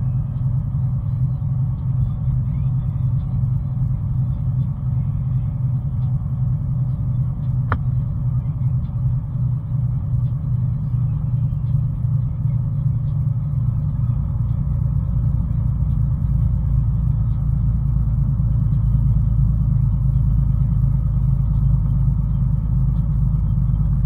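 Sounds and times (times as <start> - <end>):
vehicle driving drone: 0.0 - 24.0.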